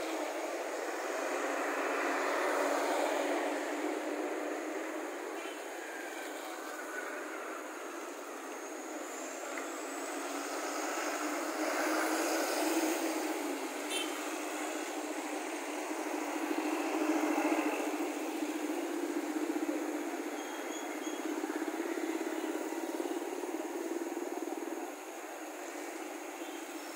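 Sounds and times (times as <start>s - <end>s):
road traffic passing: 0.0s - 26.9s.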